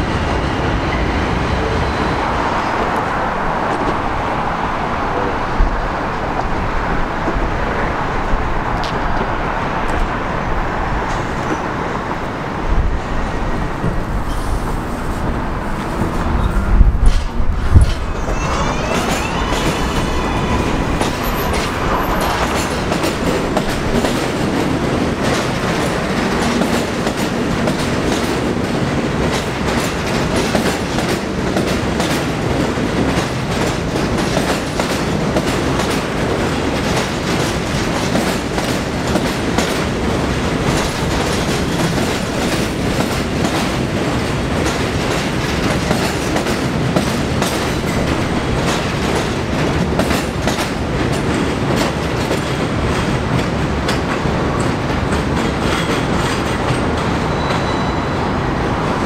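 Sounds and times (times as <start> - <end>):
subway train rumbling by: 0.0 - 59.0.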